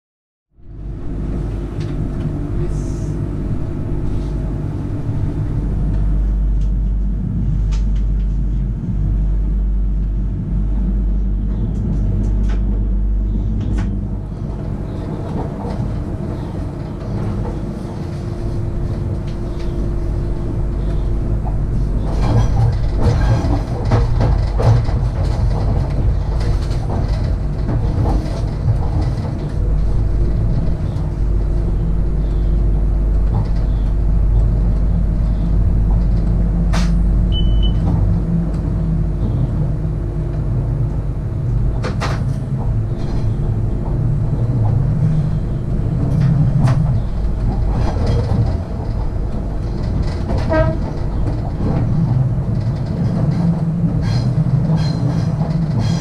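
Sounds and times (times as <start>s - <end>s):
train low rumble: 0.5s - 56.0s.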